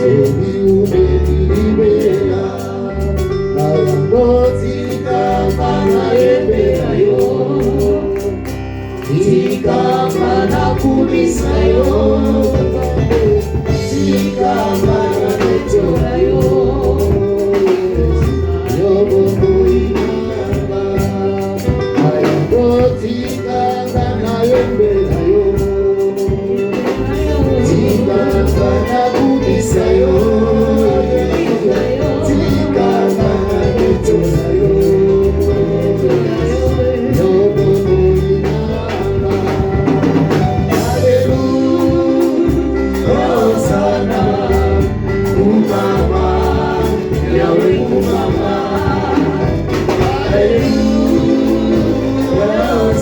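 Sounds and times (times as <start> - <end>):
band with drums: 0.0 - 53.0
voices singing praise song: 0.0 - 53.0.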